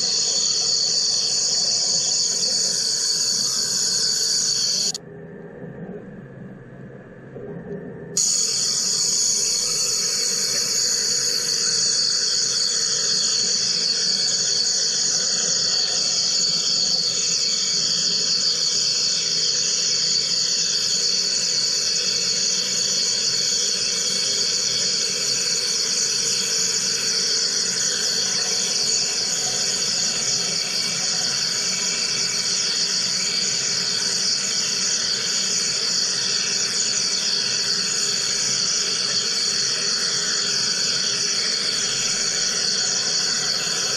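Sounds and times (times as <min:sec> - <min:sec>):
machine high-pitched hiss: 0:00.0 - 0:05.0, 0:08.2 - 0:43.9.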